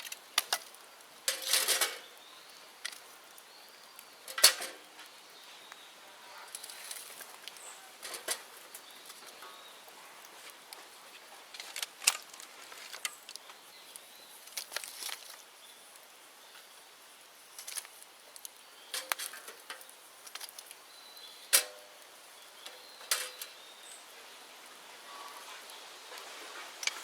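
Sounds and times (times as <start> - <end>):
sharp pops and cracks: 0.0 - 5.8, 6.5 - 16.7, 17.5 - 23.7, 26.1 - 27.0
bonfire crackling: 0.0 - 27.0.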